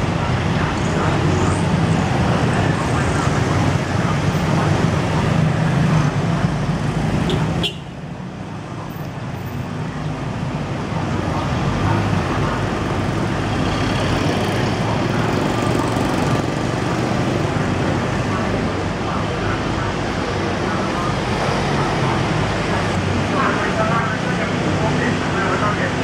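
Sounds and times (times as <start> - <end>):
cars and motorbikes passing: 0.0 - 26.0.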